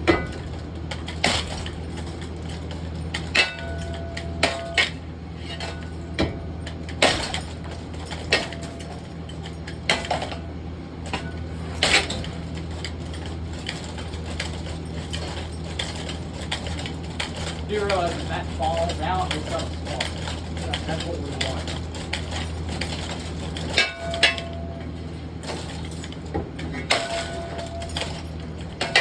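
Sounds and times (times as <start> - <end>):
metal clanks and clinks: 0.0 - 29.0
steady low hum: 0.0 - 29.0.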